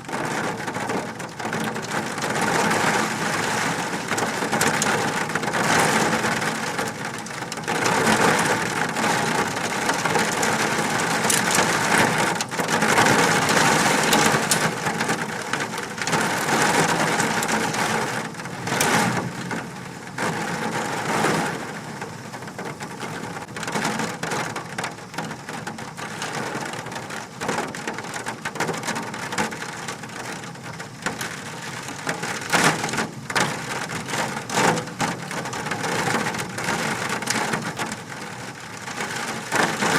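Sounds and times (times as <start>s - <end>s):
hailstones clattering: 0.1s - 39.9s.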